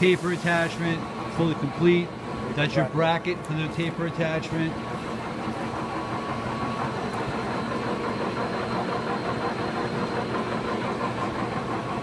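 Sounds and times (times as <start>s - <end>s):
lathe running with mechanical hum: 0.0s - 12.0s.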